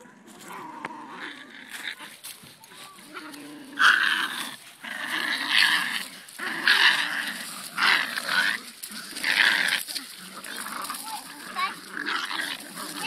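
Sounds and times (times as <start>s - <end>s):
puppies growling in play: 0.0s - 13.0s.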